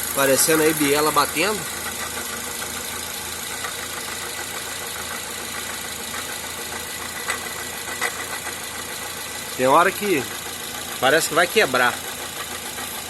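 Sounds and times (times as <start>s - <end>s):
car engine knocking: 0.0s - 13.0s.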